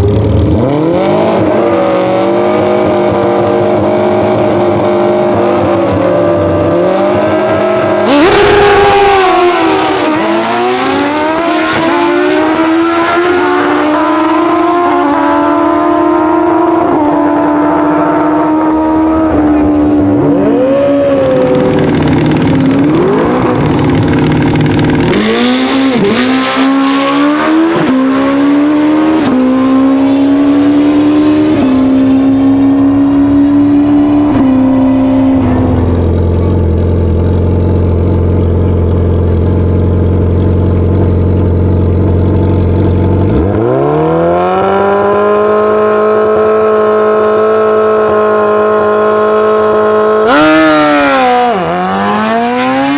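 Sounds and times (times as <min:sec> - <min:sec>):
motorbike engines at full throttle: 0:00.0 - 0:52.9.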